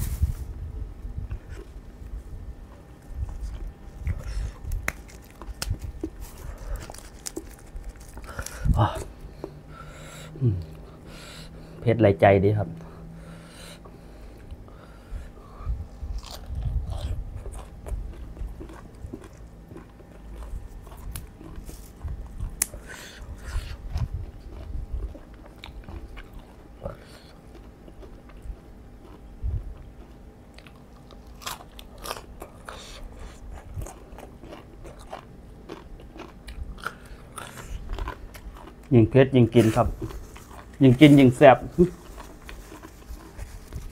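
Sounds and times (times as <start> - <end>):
chewing crisp vegetables: 1.2 - 11.8, 12.8 - 43.9.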